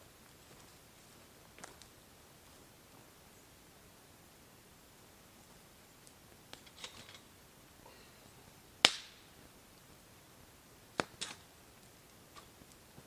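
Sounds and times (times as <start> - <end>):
campfire wood crackling: 0.0 - 13.0.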